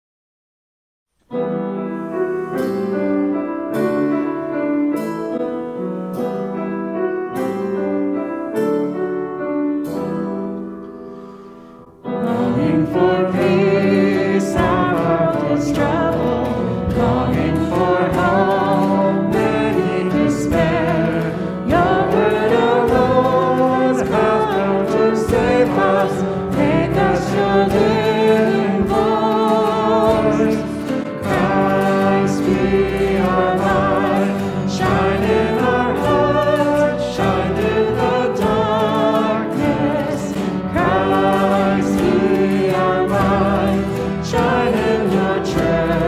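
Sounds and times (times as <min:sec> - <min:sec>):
piano chords: 0:01.2 - 0:46.0
acoustic guitar: 0:01.3 - 0:46.0.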